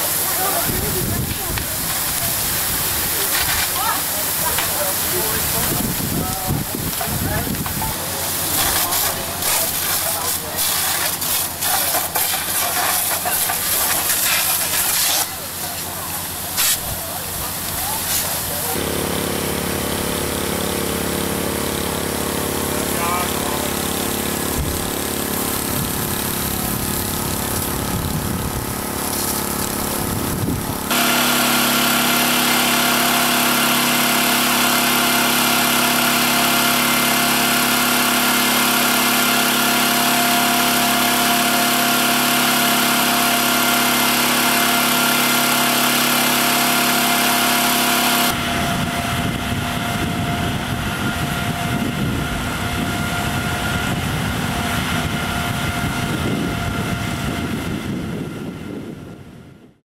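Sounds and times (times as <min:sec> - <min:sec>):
fire engine pump running: 0:00.0 - 0:59.8.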